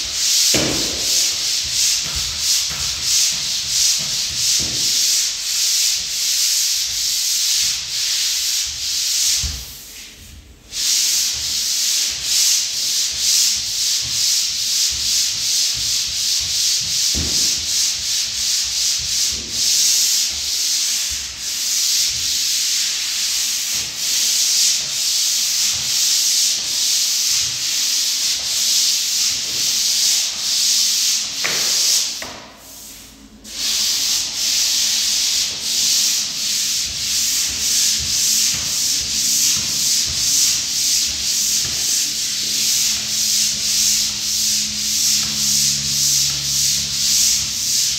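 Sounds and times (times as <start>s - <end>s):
sander scraping drywall ceiling: 0.0s - 47.9s.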